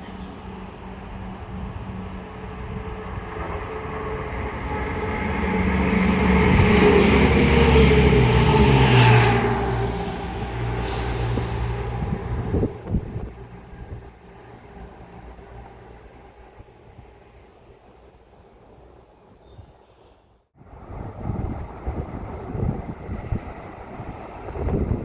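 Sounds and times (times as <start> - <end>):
diesel train passing: 0.0 - 19.4, 20.5 - 25.0.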